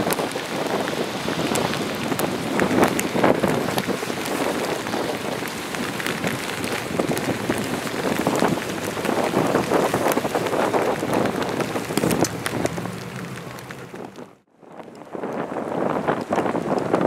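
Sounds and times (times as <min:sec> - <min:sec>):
gusting wind: 0:00.0 - 0:17.0
rain pattering: 0:00.0 - 0:17.0.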